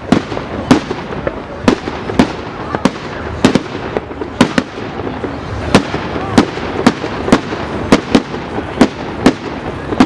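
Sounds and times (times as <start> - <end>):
fireworks bangs: 0.0 - 10.0
fireworks crackle: 0.0 - 10.0.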